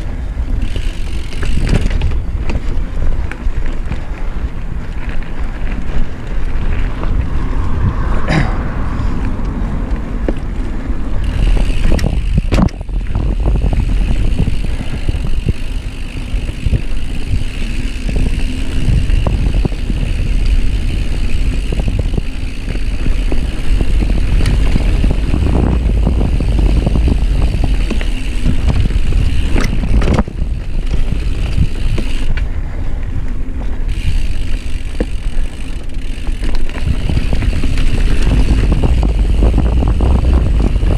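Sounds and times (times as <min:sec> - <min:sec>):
bike rattling over bumps: 0:00.0 - 0:40.9
bike tyres on dirt: 0:00.0 - 0:40.9
wind on microphone: 0:00.0 - 0:40.9.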